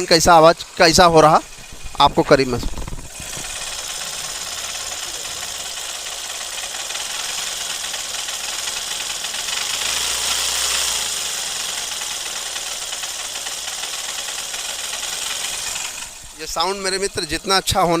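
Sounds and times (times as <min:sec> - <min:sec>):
engine knocking noise: 0:00.0 - 0:18.0
motorcycle engine running: 0:00.0 - 0:18.0.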